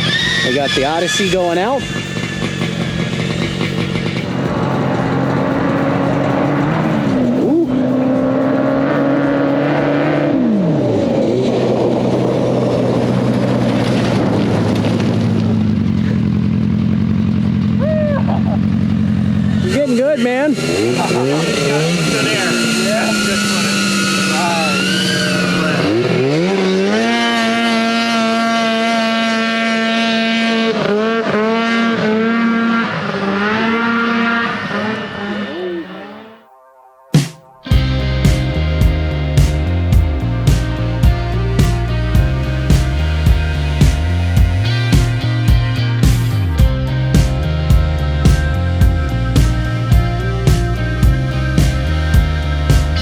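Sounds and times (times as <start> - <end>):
off-road buggy engine: 0.0 - 36.3, 37.7 - 53.0.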